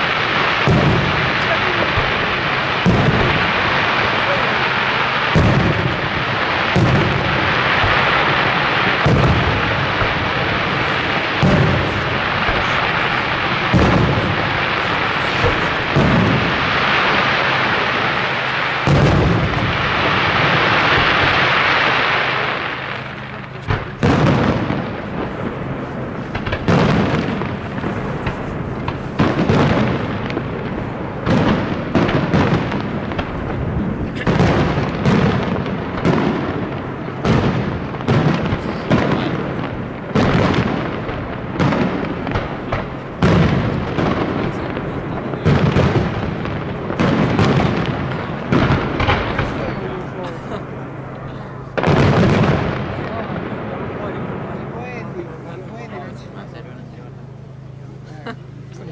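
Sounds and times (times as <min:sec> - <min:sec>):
firework shells booming: 0:00.0 - 0:58.8
dense firework crackle: 0:00.0 - 0:58.9
sharp firework reports: 0:00.0 - 0:58.9.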